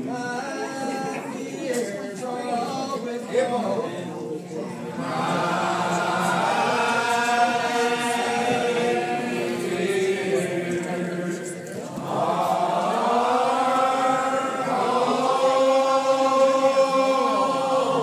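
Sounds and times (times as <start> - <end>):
congregation singing a hymn: 0.0 - 18.0.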